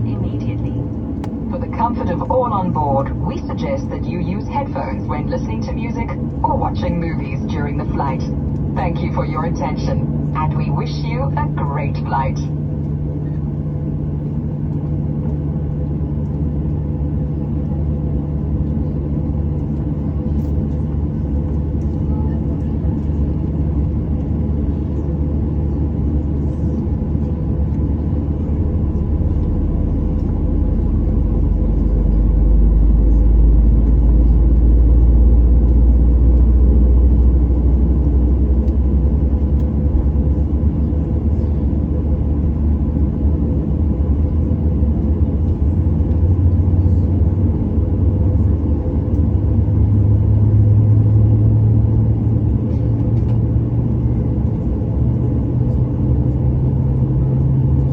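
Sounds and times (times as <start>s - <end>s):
jet engines rumbling: 0.0s - 57.9s.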